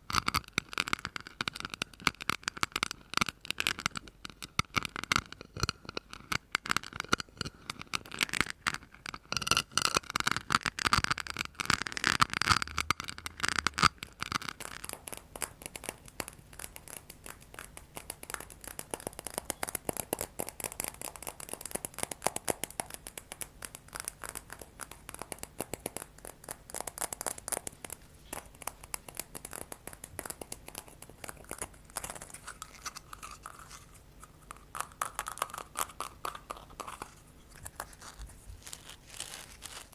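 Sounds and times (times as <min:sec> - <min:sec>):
tapping and scratching on microphone: 0:00.0 - 0:39.9.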